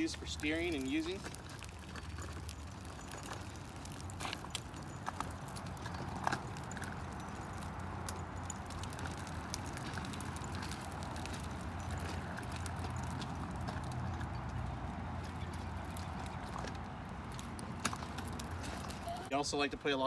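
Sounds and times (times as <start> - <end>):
wagon wheels rumbling on concrete: 0.0 - 20.0.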